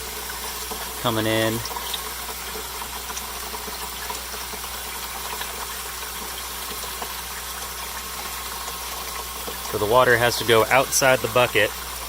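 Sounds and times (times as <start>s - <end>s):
water running into a bucket: 0.0s - 12.0s.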